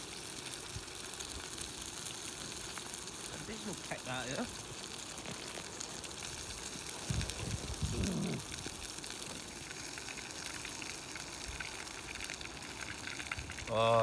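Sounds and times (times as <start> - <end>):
sausages sizzling in a pan: 0.0 - 14.0.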